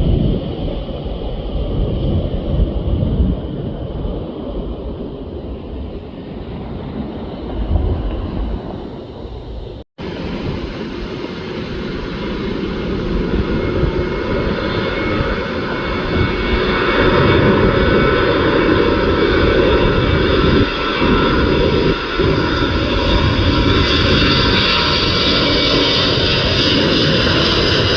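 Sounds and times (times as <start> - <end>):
jet engines rumbling and whining: 0.0 - 27.9.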